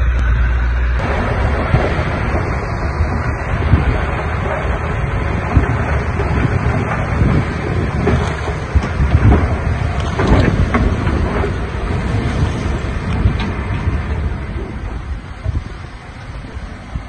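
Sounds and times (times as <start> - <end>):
diesel engine rumbling: 0.0 - 17.0
wind buffeting microphone: 0.0 - 17.0.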